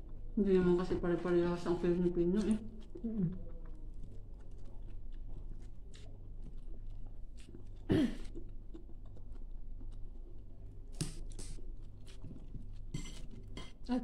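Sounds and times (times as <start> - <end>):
low steady hum: 0.0 - 14.0
person chewing food: 2.4 - 13.8.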